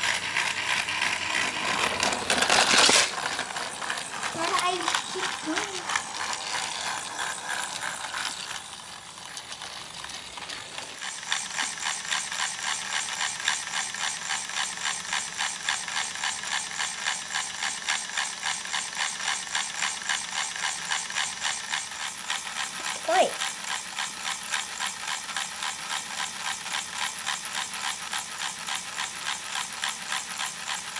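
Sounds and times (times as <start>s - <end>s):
toy train gears clicking: 0.0s - 30.9s.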